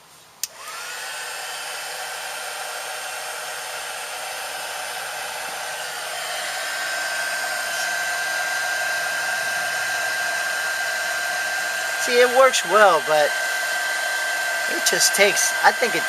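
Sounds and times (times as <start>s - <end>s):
heat gun fan whine and airflow: 0.4s - 16.0s.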